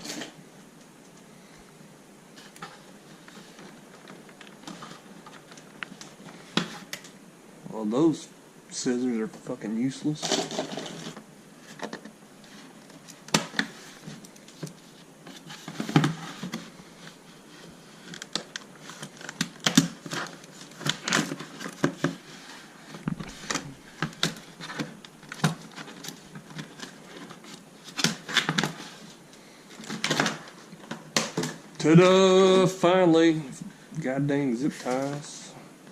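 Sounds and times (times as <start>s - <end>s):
plastic handling noises: 0.0s - 1.3s, 2.3s - 7.2s, 9.2s - 35.9s.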